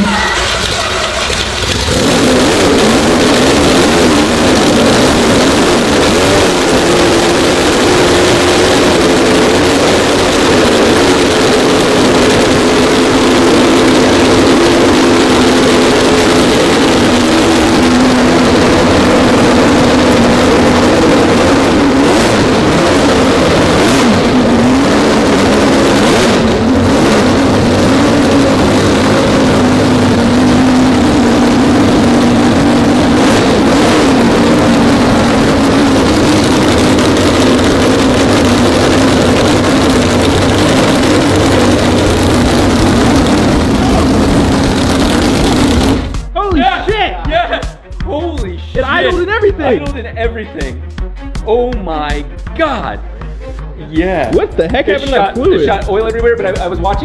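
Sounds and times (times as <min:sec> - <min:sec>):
rotary engine starting and running: 0:00.0 - 0:46.3.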